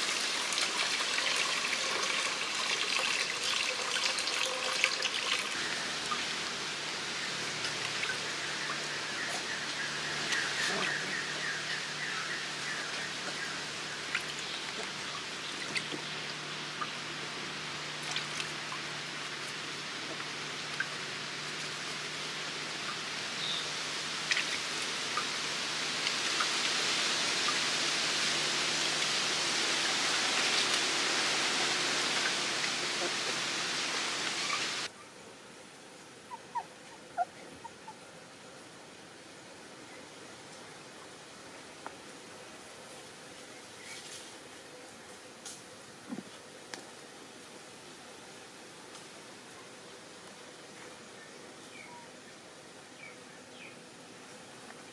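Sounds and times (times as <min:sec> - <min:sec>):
outdoor background hiss: 0:00.0 - 0:54.9.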